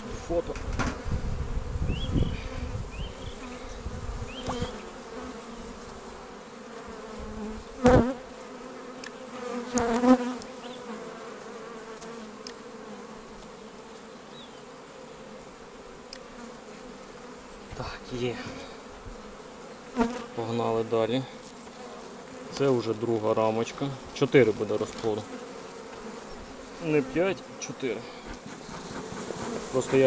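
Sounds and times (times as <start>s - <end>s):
bees humming: 0.0s - 30.0s
loud bee buzzes: 0.0s - 30.0s.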